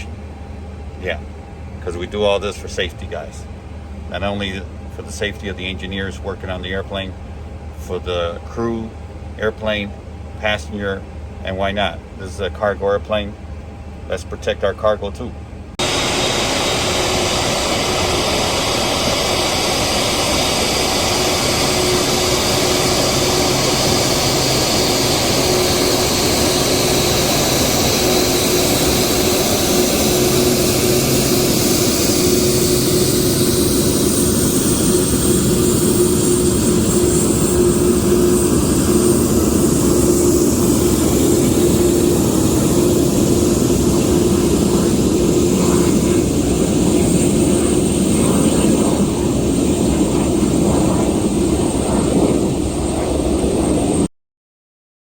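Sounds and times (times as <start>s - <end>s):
jet turbine running: 0.0s - 54.1s.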